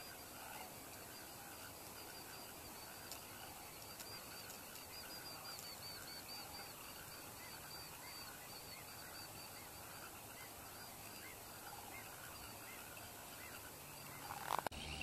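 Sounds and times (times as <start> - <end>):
distant flock of birds honking: 0.0 - 15.0
outdoor hush: 0.0 - 15.0.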